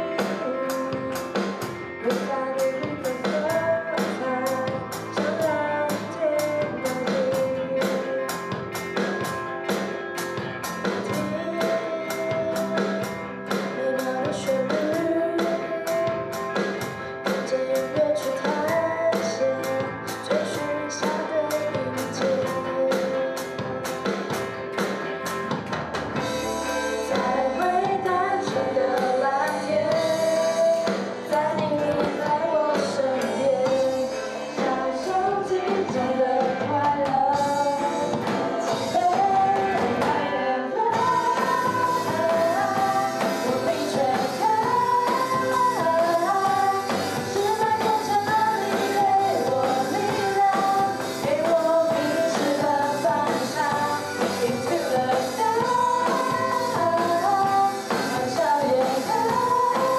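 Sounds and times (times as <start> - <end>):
person singing: 0.0 - 9.8, 10.8 - 24.4, 26.5 - 59.9
pop-rock band playing live: 0.0 - 59.9.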